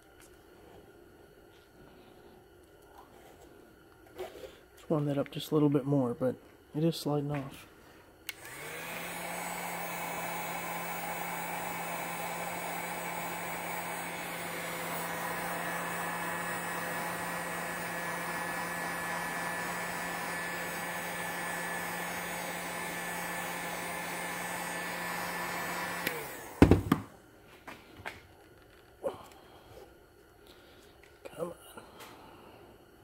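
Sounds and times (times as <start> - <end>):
heat gun fan hum: 0.0 - 33.0.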